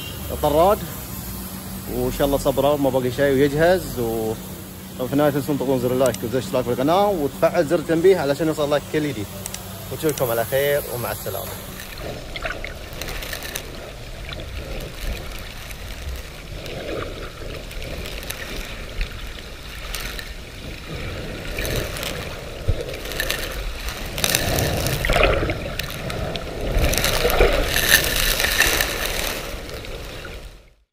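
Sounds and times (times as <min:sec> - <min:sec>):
muffled underwater water sloshing: 0:01.5 - 0:30.8.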